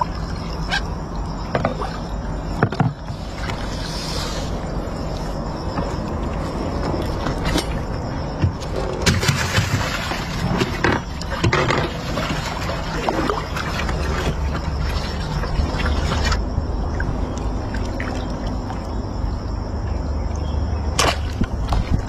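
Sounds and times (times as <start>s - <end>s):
splashing and knocking in water: 0.0s - 3.9s, 5.7s - 19.2s, 20.9s - 22.0s
steady low rumble: 0.0s - 9.0s, 12.0s - 22.0s.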